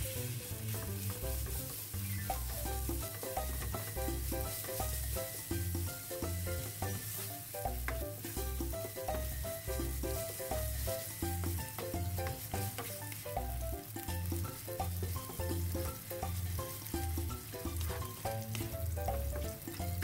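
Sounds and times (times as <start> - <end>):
background music: 0.0 - 20.0
meat sizzling in a frying pan: 0.0 - 20.0
spatula stirring in pan: 0.0 - 20.0.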